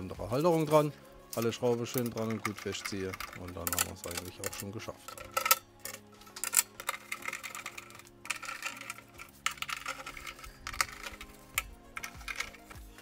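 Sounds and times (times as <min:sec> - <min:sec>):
sheet metal clicks and clatter: 0:00.4 - 0:13.0.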